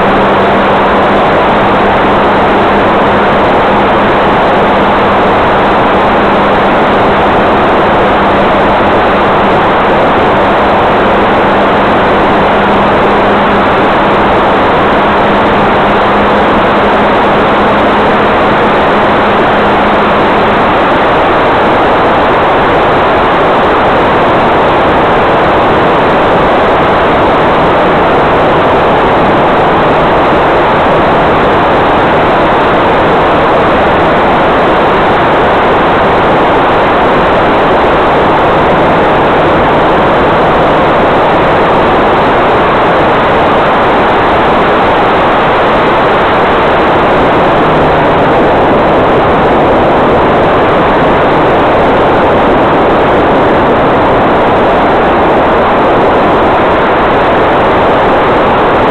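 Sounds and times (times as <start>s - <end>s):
airflow and motor rush: 0.0s - 58.9s
motor and propeller hum: 0.0s - 58.9s.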